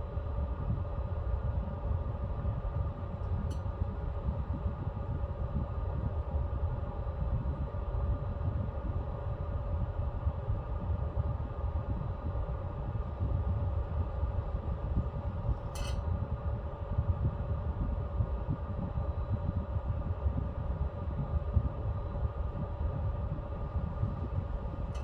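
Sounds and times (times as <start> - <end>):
fan hum: 0.0 - 25.0
pellet stove fire rumble: 0.2 - 25.0.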